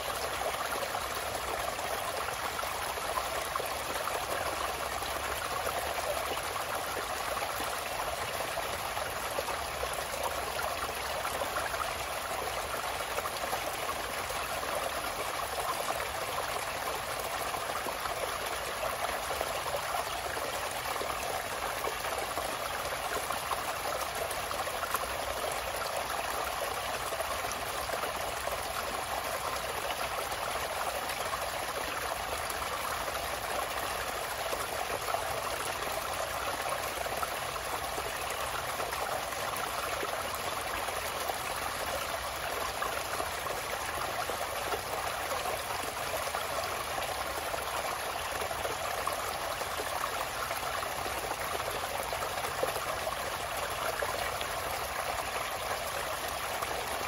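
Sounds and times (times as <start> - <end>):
water trickling over rocks: 0.0 - 57.0.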